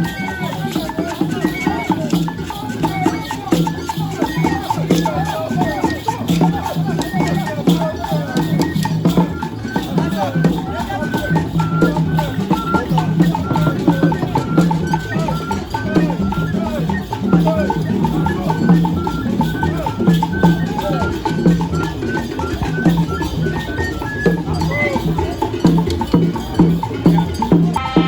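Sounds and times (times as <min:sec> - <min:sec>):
background voices: 0:00.0 - 0:28.0
percussion music with drums: 0:00.0 - 0:28.0.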